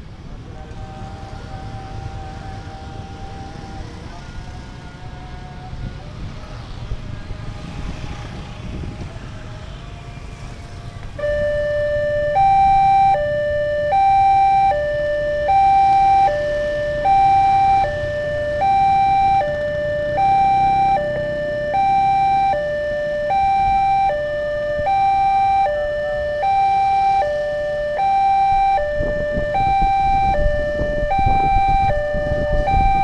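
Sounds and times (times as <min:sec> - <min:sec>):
vehicles passing over crossing: 0:00.0 - 0:33.0
two-tone warning siren: 0:00.4 - 0:33.0.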